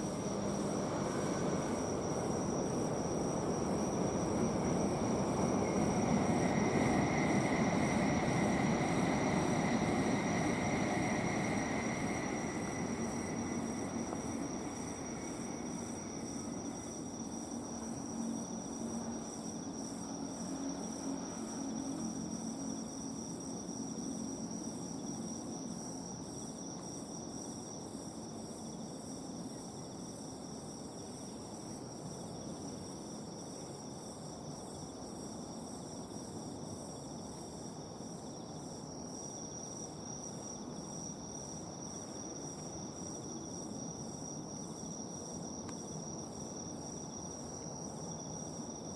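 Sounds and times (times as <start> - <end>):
insects trilling: 0.0 - 48.9
pulsing insect chirp: 0.0 - 48.9.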